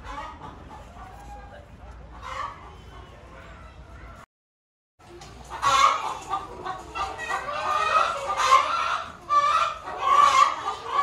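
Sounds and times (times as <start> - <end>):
chickens clucking: 0.0 - 4.2, 5.0 - 11.0.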